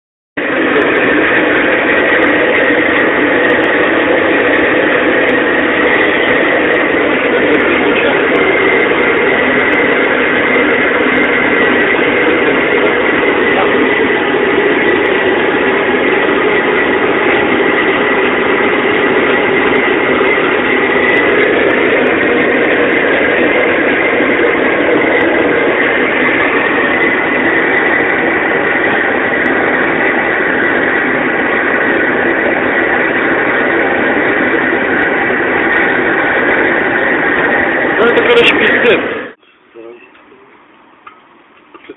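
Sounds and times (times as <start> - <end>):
motor-driven machine whining: 0.4 - 41.9.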